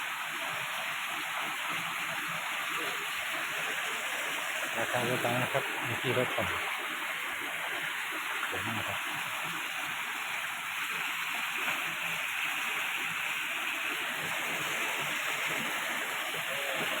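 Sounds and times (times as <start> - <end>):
water splashing into pool: 0.0 - 17.0.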